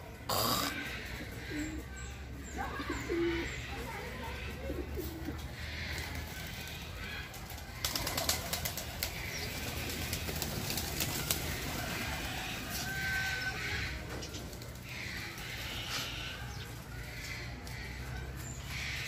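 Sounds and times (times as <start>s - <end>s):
dove cooing: 0.0s - 2.0s, 2.6s - 19.0s.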